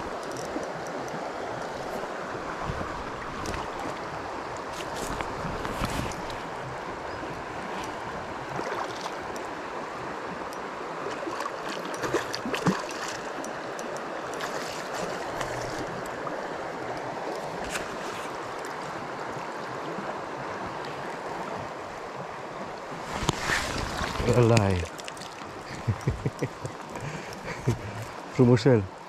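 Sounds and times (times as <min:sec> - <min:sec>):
river water rushing over stones: 0:00.0 - 0:29.0.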